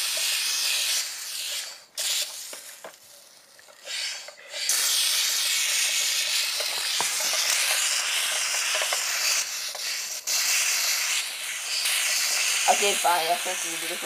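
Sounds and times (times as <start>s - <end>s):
air hissing from bicycle tyre: 0.0s - 14.0s.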